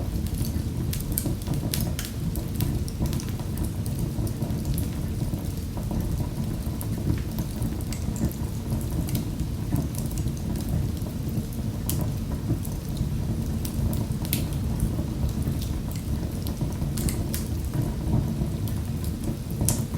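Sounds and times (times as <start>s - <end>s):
fire rumbling in a fireplace: 0.0s - 19.9s
wood fire popping and snapping: 0.0s - 19.9s.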